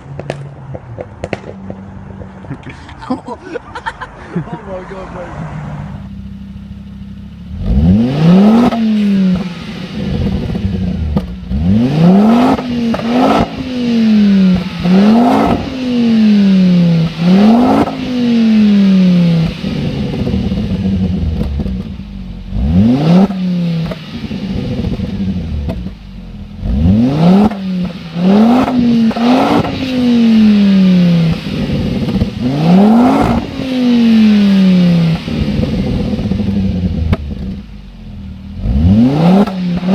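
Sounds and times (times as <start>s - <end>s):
car engine revving: 0.0s - 2.8s, 3.5s - 39.9s
exhaust cracks: 0.0s - 4.1s, 4.7s - 39.9s.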